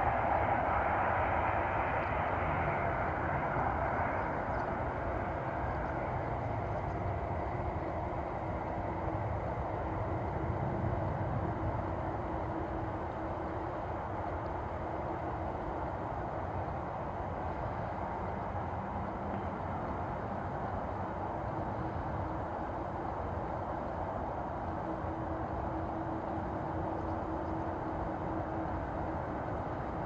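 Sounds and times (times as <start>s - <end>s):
jet engines rushing: 0.0s - 30.0s
low engine rumble: 0.0s - 30.0s.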